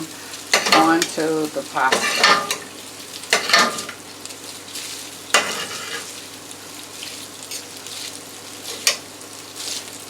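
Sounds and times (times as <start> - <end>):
pasta sizzling in a frying pan: 0.0 - 10.0.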